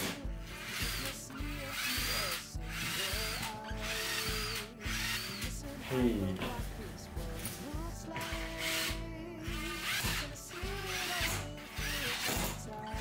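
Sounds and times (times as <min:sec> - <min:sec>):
cordless drill whining: 0:00.0 - 0:06.6, 0:07.4 - 0:13.0
background music: 0:00.0 - 0:13.0.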